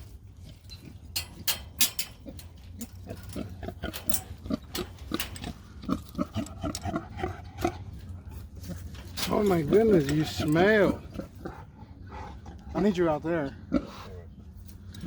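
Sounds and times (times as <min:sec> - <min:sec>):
pig grunting: 0:00.0 - 0:15.0.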